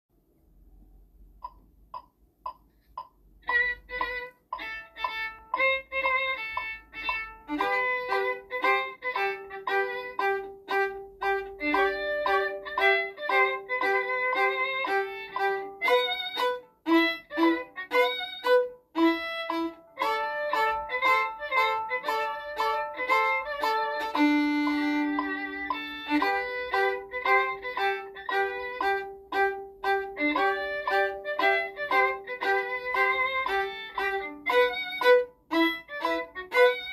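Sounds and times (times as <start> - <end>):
violin melody: 3.4 - 36.9.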